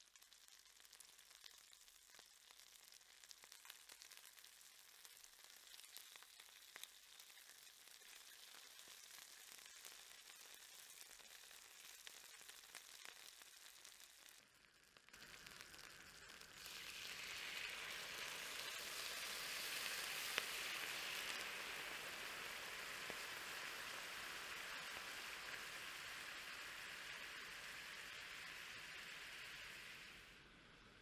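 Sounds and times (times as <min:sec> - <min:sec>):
meat sizzling in skillet: 0:00.0 - 0:31.0.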